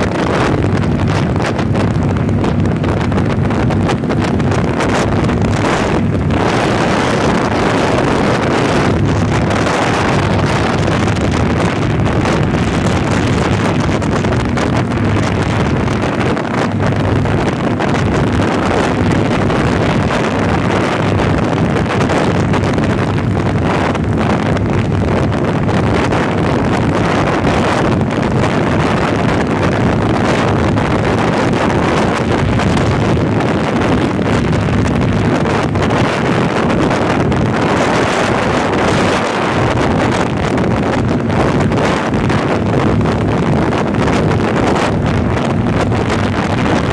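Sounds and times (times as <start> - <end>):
motorcycle engine running: 0.0 - 46.9
wind rushing over microphone: 0.0 - 46.9.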